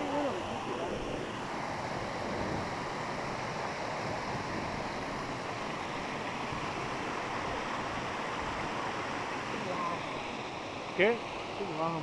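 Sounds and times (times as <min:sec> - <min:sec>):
waterfall over rocks: 0:00.0 - 0:12.0.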